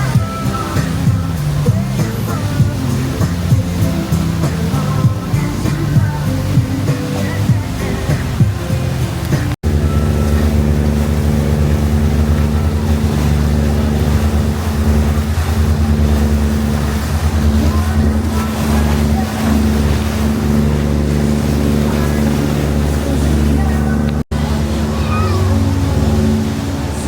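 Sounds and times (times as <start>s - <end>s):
boat engine droning: 0.0s - 27.0s
water noise: 0.0s - 27.0s
wind: 0.0s - 27.0s.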